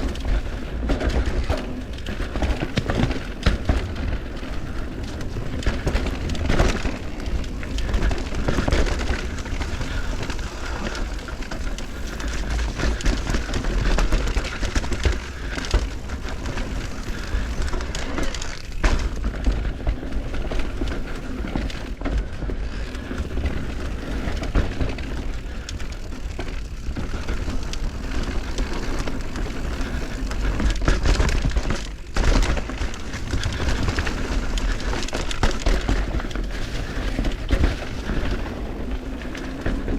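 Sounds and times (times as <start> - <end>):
bike knocks and rattles: 0.0 - 39.9
bike tyre noise: 0.0 - 39.9.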